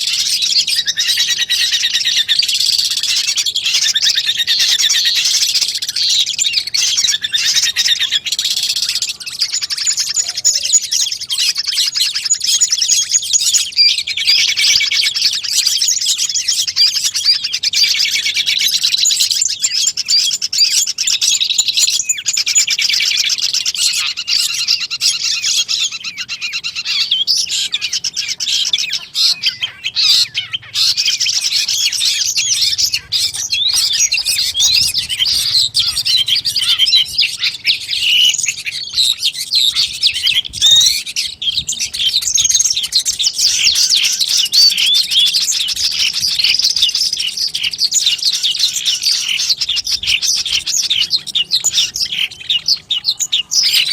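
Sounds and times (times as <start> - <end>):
shrike singing chattering song: 0.0 - 53.9.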